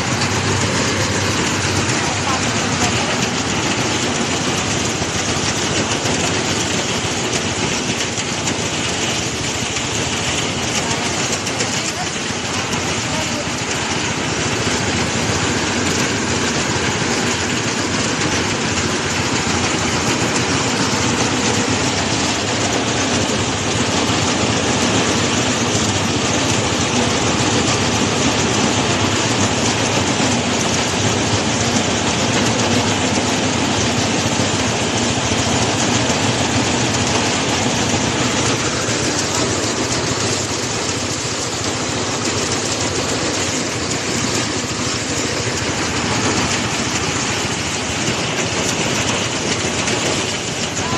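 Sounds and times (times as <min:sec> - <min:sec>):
harvesting machine running: 0:00.0 - 0:50.9.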